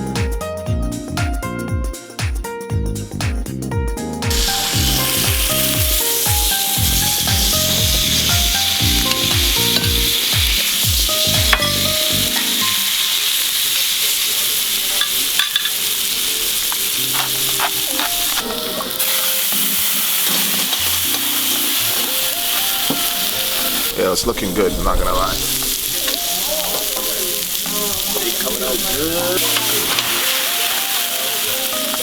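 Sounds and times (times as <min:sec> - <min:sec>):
background music with beat: 0:00.0 - 0:12.9, 0:16.9 - 0:24.0, 0:25.4 - 0:32.0
steak sizzling in pan: 0:04.3 - 0:32.0.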